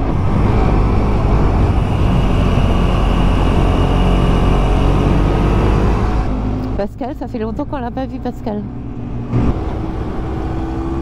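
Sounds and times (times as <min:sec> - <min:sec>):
wind noise: 0:00.0 - 0:11.0.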